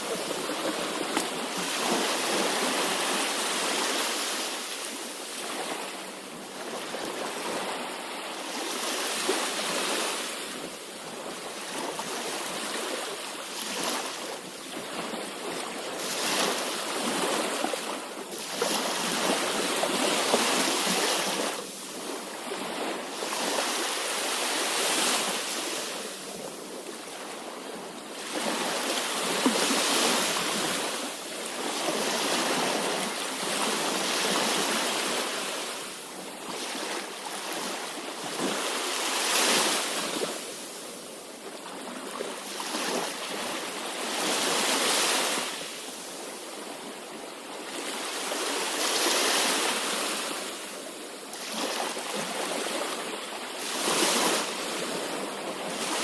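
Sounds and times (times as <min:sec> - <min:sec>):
sea waves surging and washing: 0:00.0 - 0:56.0.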